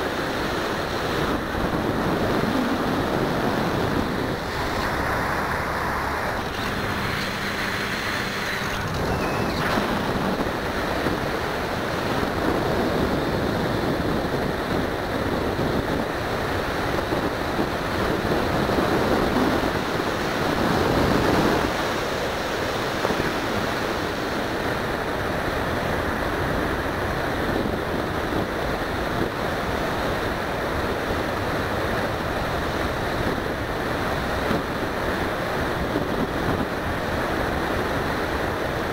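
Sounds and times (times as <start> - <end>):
wind roar on microphone: 0.0 - 38.9.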